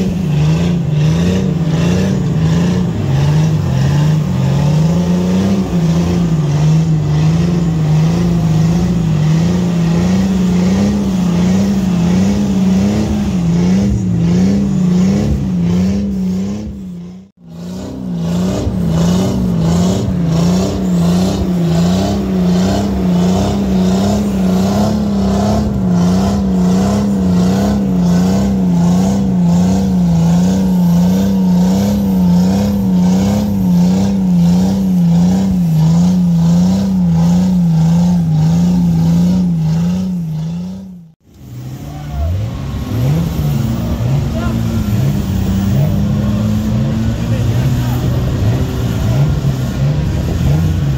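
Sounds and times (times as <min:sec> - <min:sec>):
off-road engine revving under load: 0:00.0 - 0:50.9.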